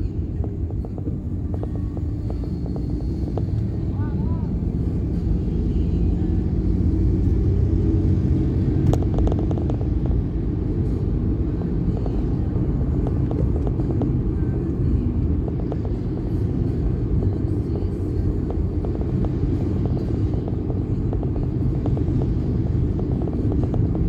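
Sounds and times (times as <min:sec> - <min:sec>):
vehicle and road rumble: 0:00.0 - 0:24.0.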